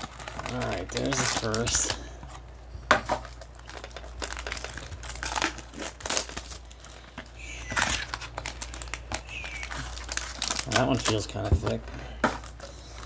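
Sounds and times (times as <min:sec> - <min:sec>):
foil packs crinkling: 0:00.0 - 0:13.0.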